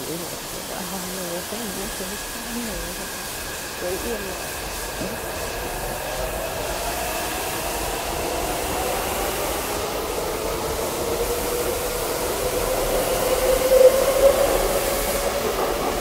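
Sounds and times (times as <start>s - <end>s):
heavy rain hiss: 0.0s - 16.0s
train motor whine: 0.0s - 16.0s.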